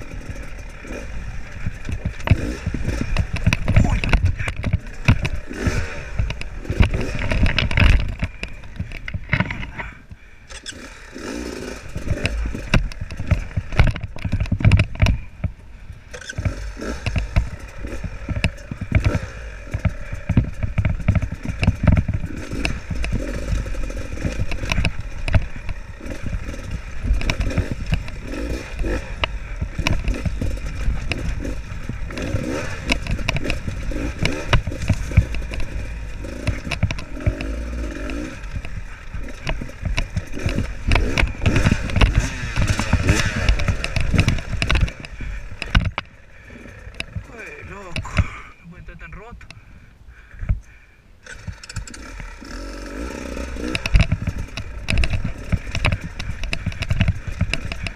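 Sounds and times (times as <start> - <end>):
wheels knocking on rocks: 0.0 - 49.6, 50.3 - 57.9
dirt bike engine at low revs: 0.0 - 57.9.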